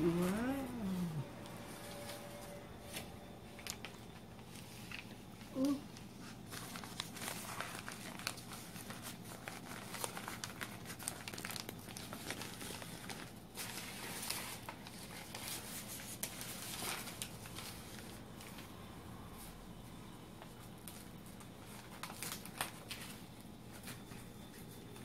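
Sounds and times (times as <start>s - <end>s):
newspaper crinkling and tearing: 0.0s - 18.7s, 20.4s - 25.0s.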